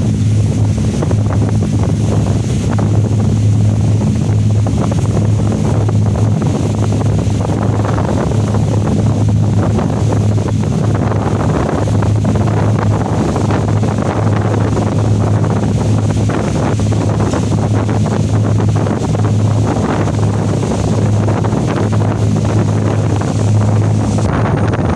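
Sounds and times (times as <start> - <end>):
boat engine drone: 0.0 - 24.9
water noise: 0.0 - 24.9
wind buffeting microphone: 0.0 - 24.9.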